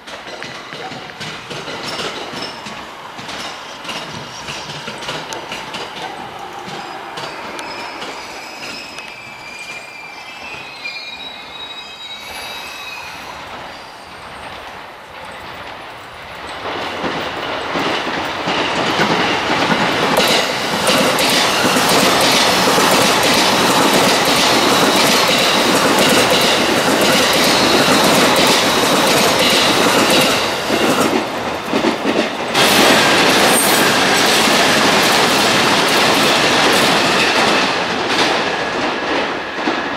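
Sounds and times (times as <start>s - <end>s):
electric train passing: 0.0s - 39.9s
wheels ringing on rails: 0.1s - 38.4s.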